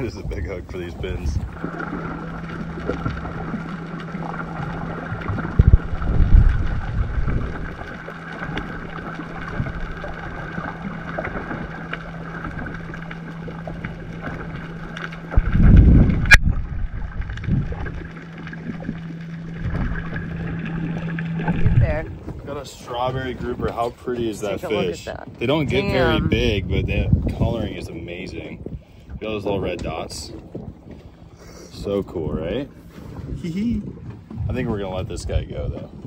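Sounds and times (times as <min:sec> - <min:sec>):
low rushes of wind or water: 0:00.0 - 0:36.0
steady low boat hum: 0:00.0 - 0:36.0
water and wind noise: 0:00.0 - 0:36.0.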